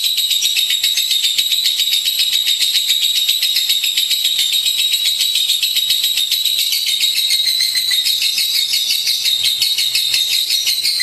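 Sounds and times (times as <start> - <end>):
lovebird chattering: 0.0 - 11.0.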